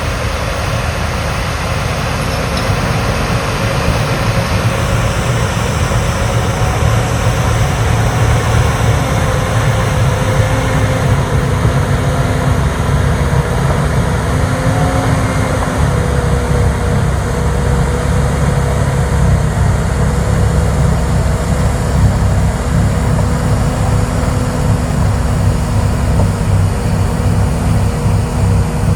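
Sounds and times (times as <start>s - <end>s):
diesel engine running: 0.0s - 28.9s
wavering whine: 0.0s - 28.9s.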